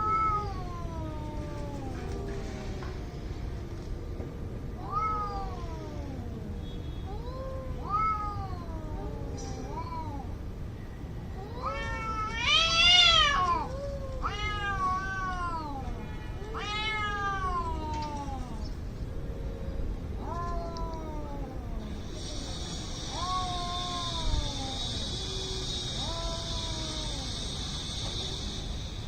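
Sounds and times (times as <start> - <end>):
cats yowling: 0.0 - 3.2, 4.8 - 10.4, 11.4 - 28.5.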